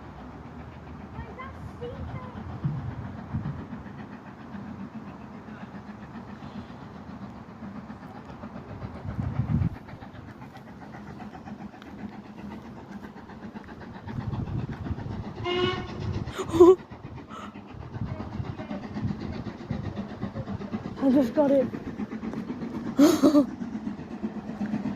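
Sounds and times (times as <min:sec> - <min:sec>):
railway train rumbling: 0:00.0 - 0:24.9.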